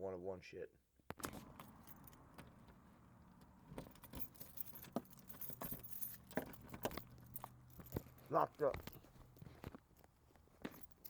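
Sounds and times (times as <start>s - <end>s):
keys jangling: 1.3s - 11.0s.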